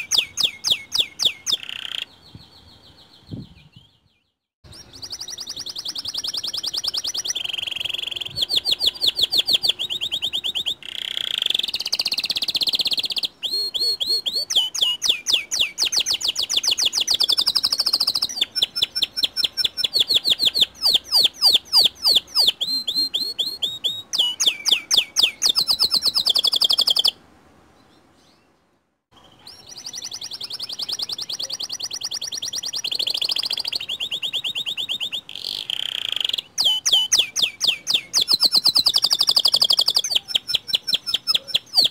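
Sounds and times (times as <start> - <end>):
canary singing trills: 0.0 - 27.2, 29.2 - 41.9.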